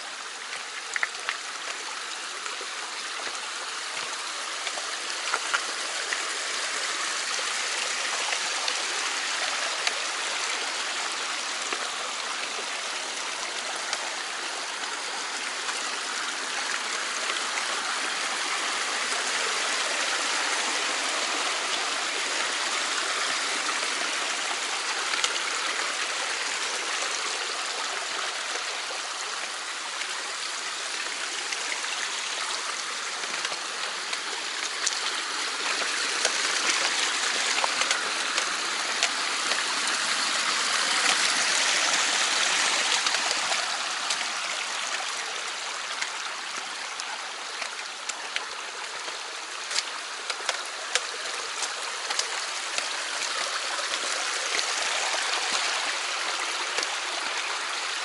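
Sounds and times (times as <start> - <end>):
stream rushing and gurgling: 0.0 - 58.0.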